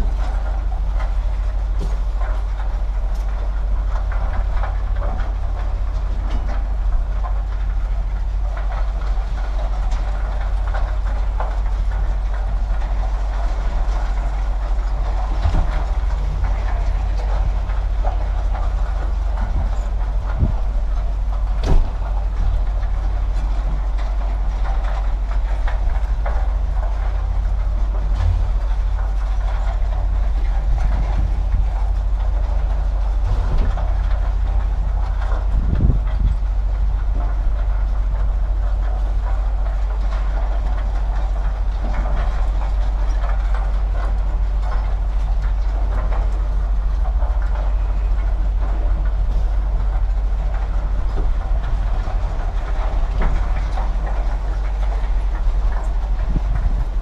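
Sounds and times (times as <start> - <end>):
low mechanical rumble: 0.0 - 57.0.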